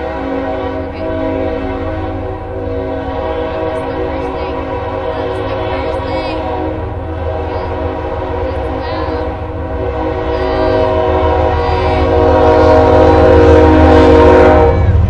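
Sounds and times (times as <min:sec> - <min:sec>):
low rumble: 0:00.0 - 0:15.0
train horn chord: 0:00.0 - 0:15.0.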